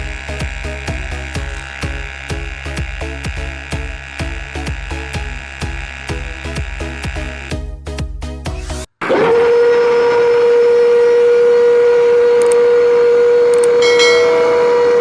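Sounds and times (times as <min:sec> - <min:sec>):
small electric motor whining: 0:00.0 - 0:07.7, 0:08.7 - 0:15.0.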